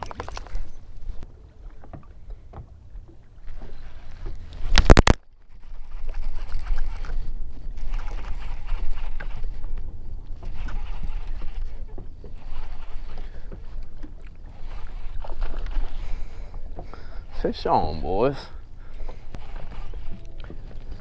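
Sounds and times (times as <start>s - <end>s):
water slapping boat hull: 0.0s - 21.0s.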